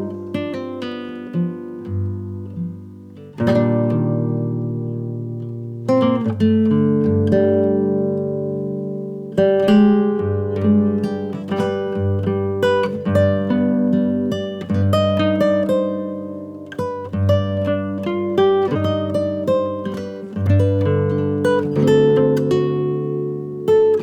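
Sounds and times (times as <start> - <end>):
acoustic guitar picking: 0.0 - 24.0.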